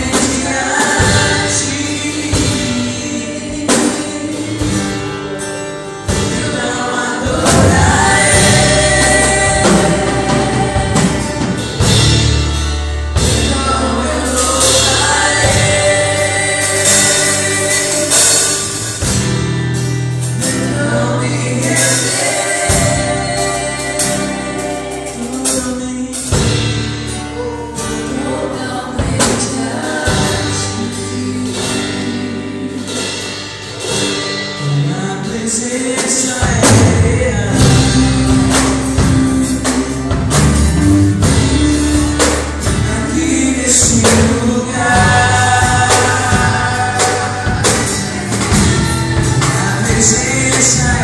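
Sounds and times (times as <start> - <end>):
man singing lead: 0.0 - 5.3, 6.1 - 11.9, 13.2 - 19.1, 20.3 - 33.3, 34.6 - 51.0
women backing singers: 0.0 - 5.4, 6.0 - 12.2, 13.2 - 19.1, 20.4 - 33.3, 34.8 - 51.0
worship band playing: 0.0 - 51.0.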